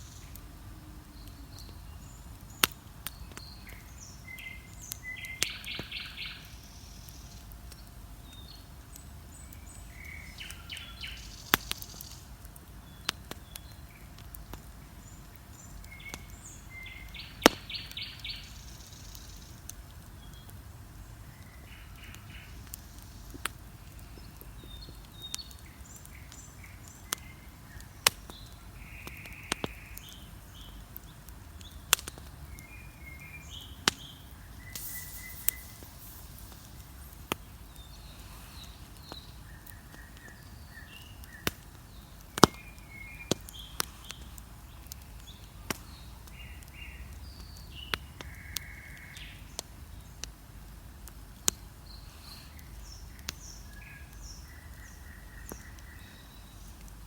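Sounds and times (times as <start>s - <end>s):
bonfire crackling and popping: 0.0s - 57.0s
songbirds chirping: 0.0s - 57.0s.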